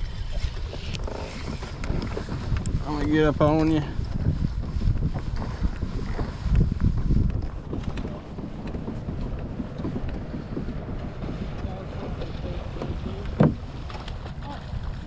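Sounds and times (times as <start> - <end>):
kayak drive churning water: 0.0 - 15.0
wind buffeting microphone: 0.0 - 15.0.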